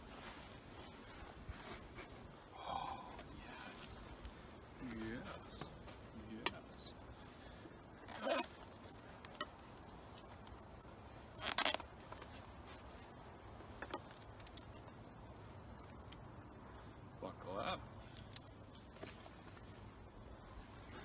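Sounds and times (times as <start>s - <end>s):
small metal clinks: 0.2s - 21.0s.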